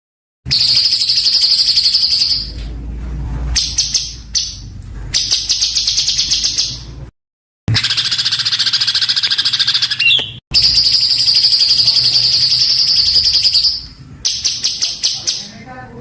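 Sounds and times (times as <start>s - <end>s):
songbird rattling song: 0.5s - 2.7s, 3.5s - 7.0s, 7.7s - 15.6s.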